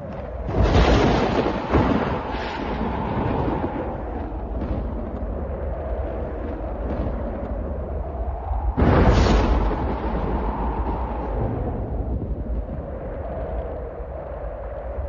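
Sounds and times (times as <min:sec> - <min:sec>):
low thunder rumbling: 0:00.0 - 0:15.0
thunder crack: 0:00.5 - 0:08.1, 0:08.7 - 0:13.7.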